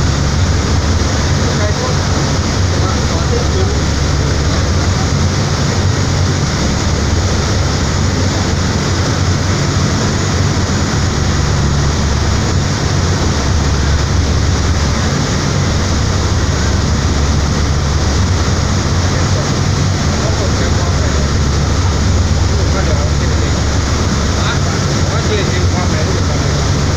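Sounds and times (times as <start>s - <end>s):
ferry engine drone: 0.0s - 26.9s
rushing water: 0.0s - 26.9s.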